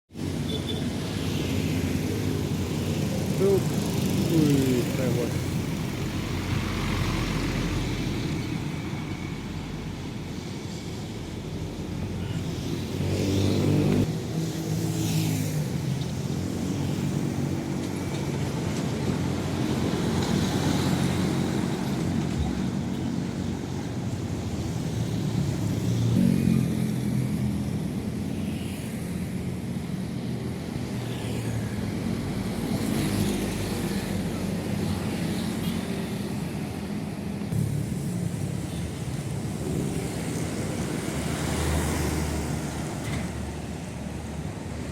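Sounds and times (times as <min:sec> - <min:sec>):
trucks and buses driving past: 0:00.1 - 0:44.9.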